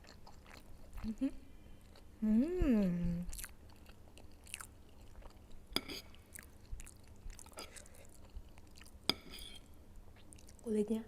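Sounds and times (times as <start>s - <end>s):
person chewing food: 0.0s - 2.2s, 3.2s - 10.6s.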